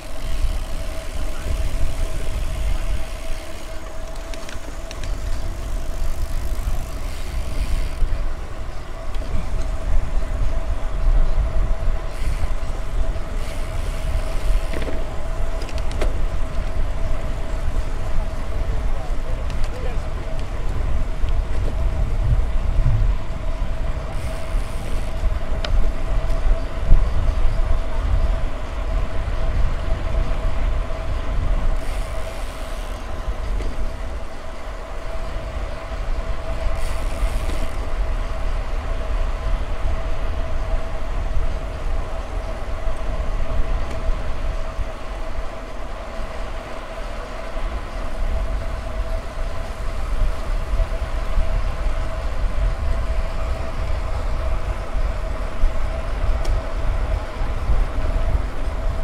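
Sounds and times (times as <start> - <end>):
bicycle tyres on paved road: 0.0 - 59.0
steady whine: 0.0 - 59.0
wind on the microphone: 0.0 - 59.0.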